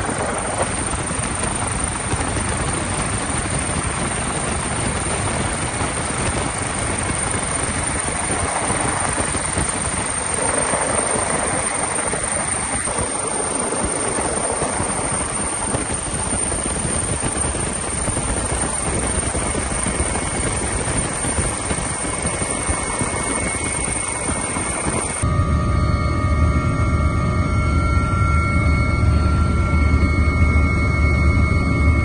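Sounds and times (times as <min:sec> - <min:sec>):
helicopter rotor and engine: 0:00.0 - 0:32.0.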